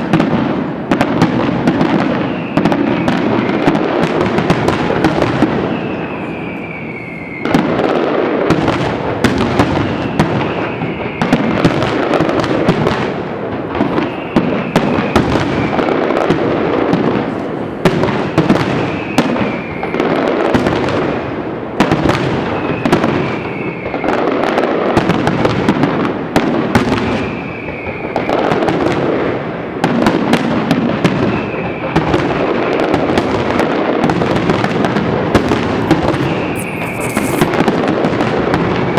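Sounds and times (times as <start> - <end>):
falling firework whistle: 0.0 - 38.9
fireworks bursts and bangs: 0.0 - 38.9.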